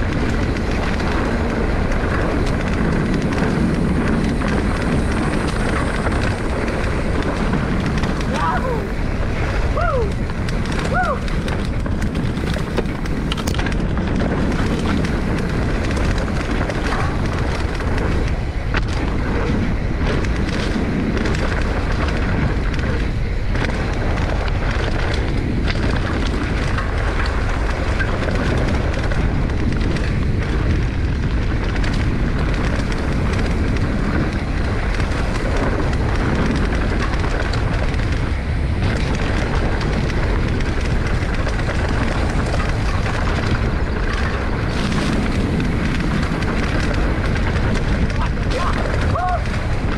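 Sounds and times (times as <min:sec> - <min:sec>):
bike knocking over bumps: 0:00.0 - 0:49.9
bike tyres rolling on dirt: 0:00.0 - 0:49.9
wind buffeting microphone: 0:00.0 - 0:49.9.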